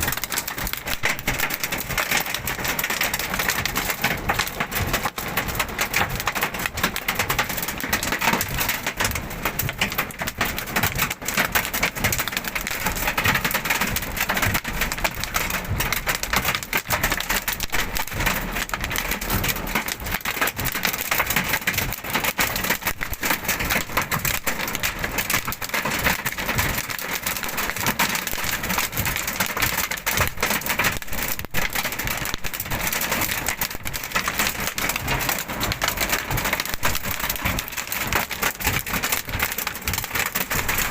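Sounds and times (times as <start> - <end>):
hailstones pelting hard surfaces: 0.0 - 40.9
heavy rain: 0.0 - 40.9.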